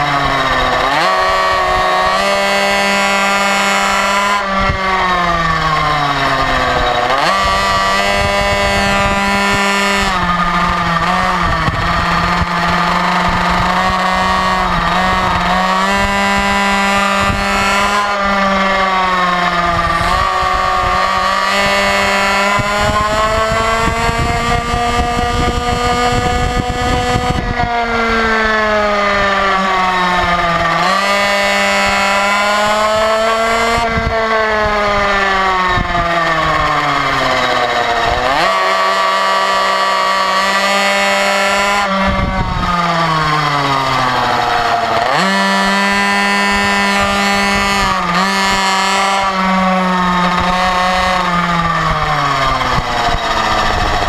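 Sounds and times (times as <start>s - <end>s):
motorcycle engine revving: 0.0s - 54.0s
wind rumble on microphone: 3.8s - 38.4s, 40.9s - 54.0s.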